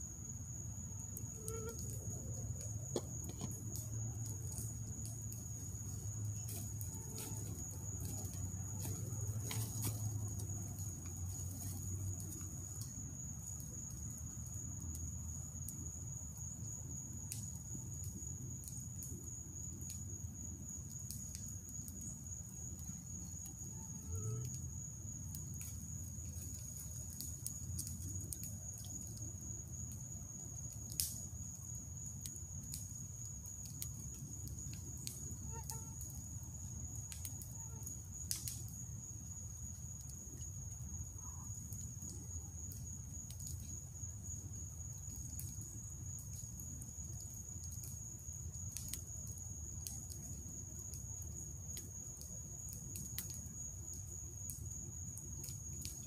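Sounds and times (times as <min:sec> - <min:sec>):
night insects droning: 0:00.0 - 0:56.0
campfire crackling and popping: 0:00.3 - 0:23.7, 0:24.4 - 0:56.0.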